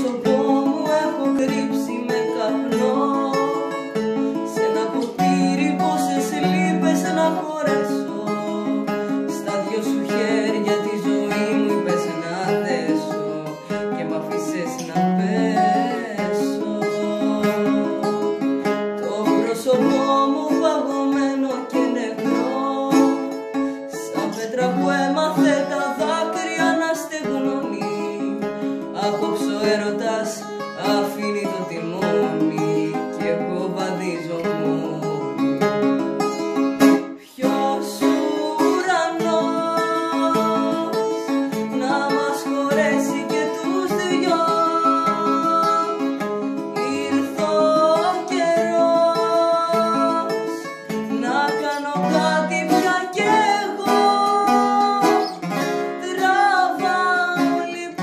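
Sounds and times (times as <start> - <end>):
plucked string instrument: 0.0 - 58.0
woman singing: 0.0 - 58.0.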